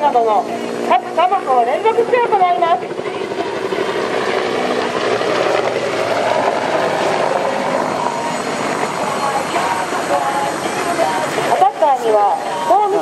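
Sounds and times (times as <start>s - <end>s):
helicopter rotor chop and engine: 0.0s - 13.0s.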